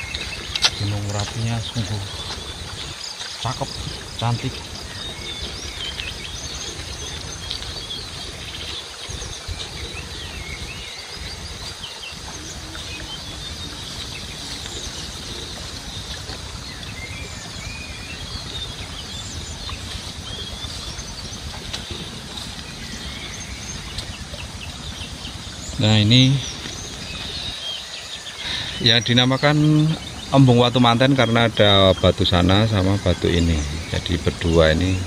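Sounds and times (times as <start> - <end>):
small birds chirping: 0.0 - 35.0
steady low rumble: 0.0 - 35.0.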